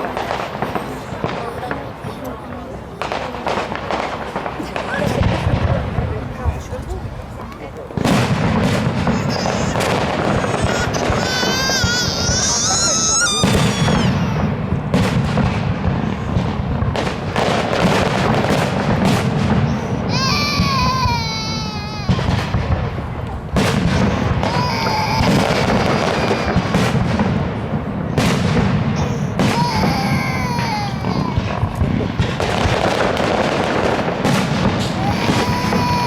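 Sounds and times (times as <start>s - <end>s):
continuous rumble: 0.0s - 36.0s
fireworks bangs and crackles: 0.0s - 36.0s.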